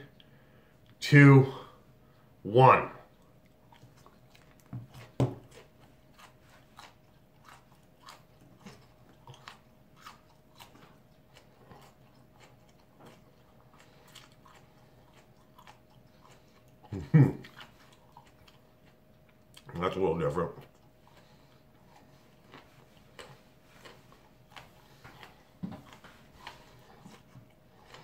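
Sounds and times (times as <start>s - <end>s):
faint steady hum: 0.0s - 28.0s
man crunching peppers: 3.1s - 28.0s.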